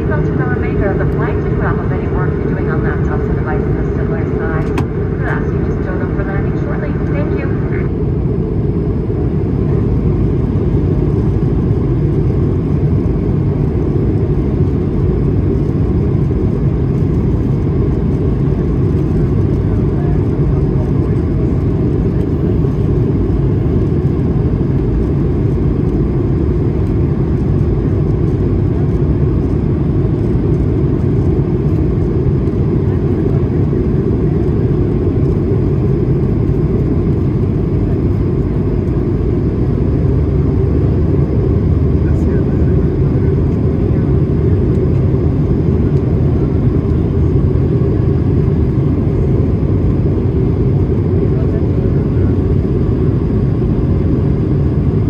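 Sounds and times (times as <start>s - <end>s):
jet engine drone: 0.0s - 55.0s.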